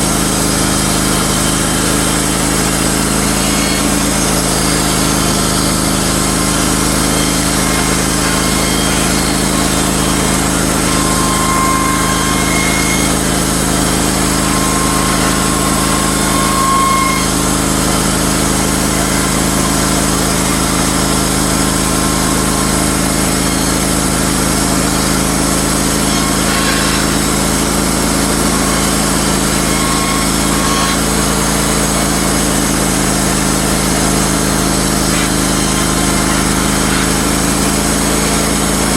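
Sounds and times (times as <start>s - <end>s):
band sawmill cutting wood: 0.0s - 38.9s.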